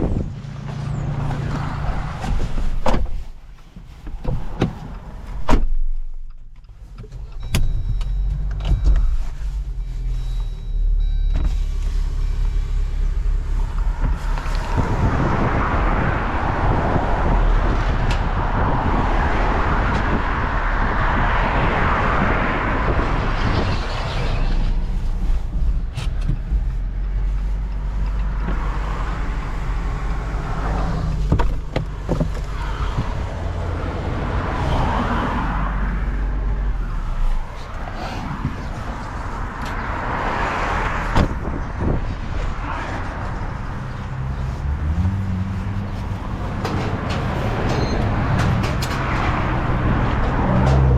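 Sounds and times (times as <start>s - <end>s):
road noise rushing: 0.0s - 7.4s, 8.3s - 50.9s
car engine humming: 0.0s - 50.9s.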